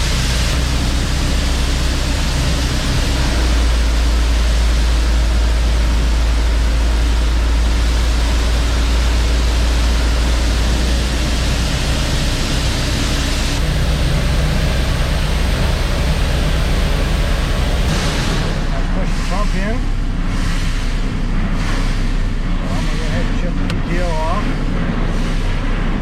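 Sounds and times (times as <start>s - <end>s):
truck engine rumble: 0.0s - 26.0s.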